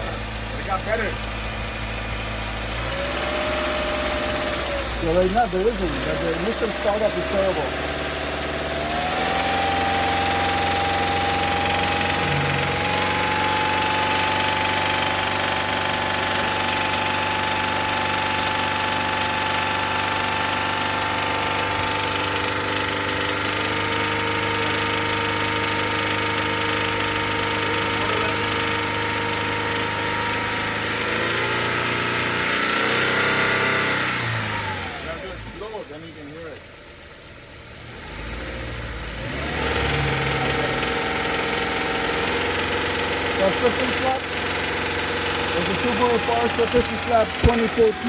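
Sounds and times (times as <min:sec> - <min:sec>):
car engine running with knocking: 0:00.0 - 0:48.0.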